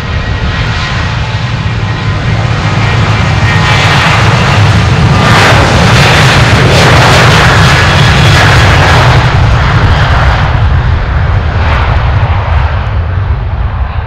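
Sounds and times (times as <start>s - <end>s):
jet engines roaring at takeoff: 0.0s - 14.0s.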